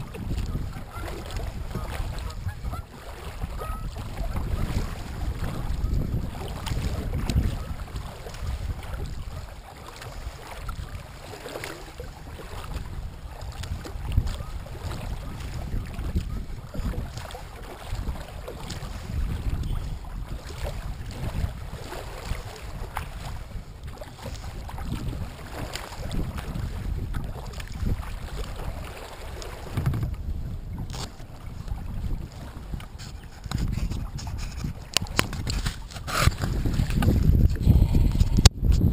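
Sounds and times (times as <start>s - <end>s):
water lapping against kayak hull: 0.0s - 38.9s
wind buffeting microphone: 0.0s - 38.9s.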